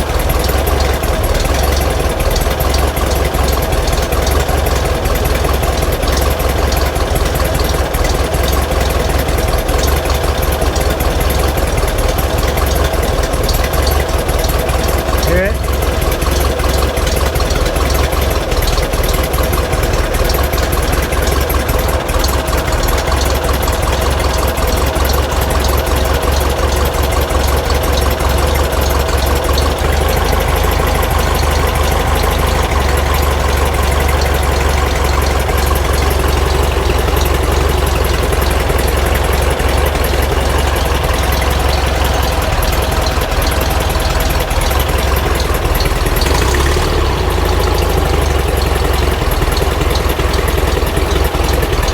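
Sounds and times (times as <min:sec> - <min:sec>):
engine idling: 0:00.0 - 0:51.9.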